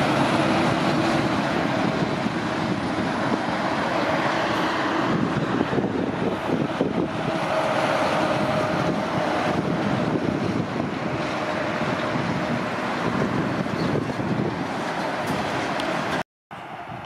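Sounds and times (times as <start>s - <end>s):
truck diesel engine and tyres: 0.0s - 17.0s
wind noise on microphone: 0.0s - 17.0s.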